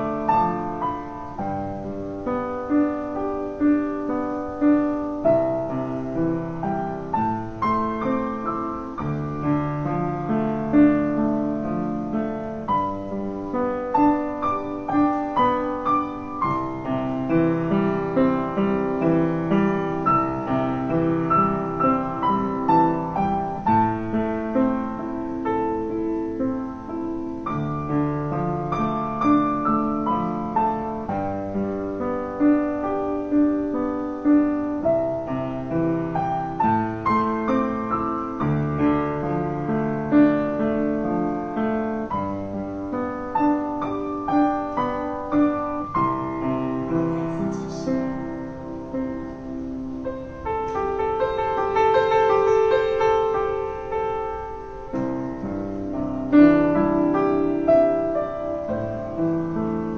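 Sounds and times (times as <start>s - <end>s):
slow piano music: 0.0s - 59.9s.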